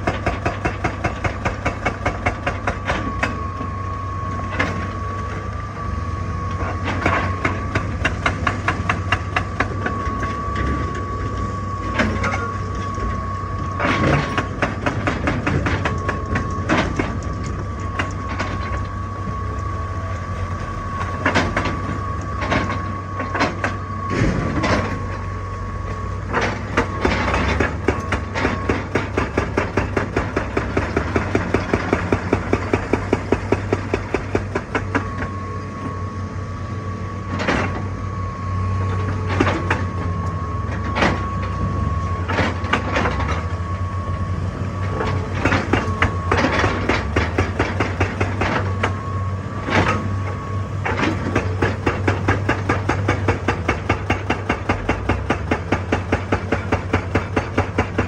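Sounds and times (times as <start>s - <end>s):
hydraulic rock breaker hammering: 0.0s - 5.4s, 6.5s - 19.4s, 20.3s - 35.4s, 38.9s - 43.8s, 44.8s - 58.0s
low engine drone: 0.0s - 58.0s.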